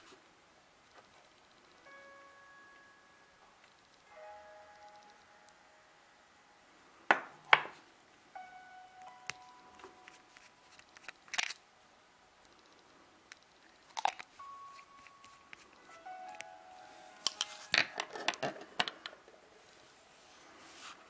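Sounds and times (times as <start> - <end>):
faint background music: 0.0 - 21.0.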